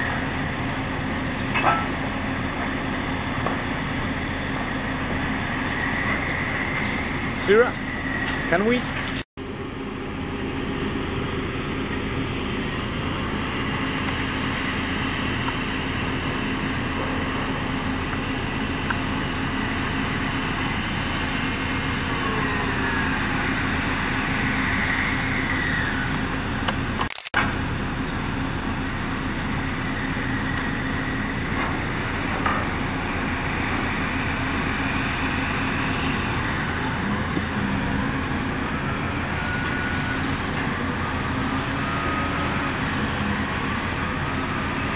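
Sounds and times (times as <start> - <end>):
drilling rig machinery rumble: 0.0 - 44.9.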